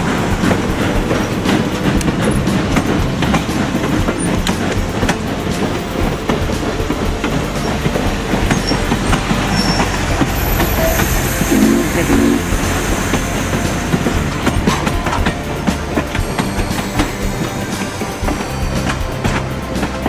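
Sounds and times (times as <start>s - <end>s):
high wheel squeal: 0.0s - 20.0s
train rumble: 0.0s - 20.0s
train wheels clicking over rail joints: 0.0s - 20.0s.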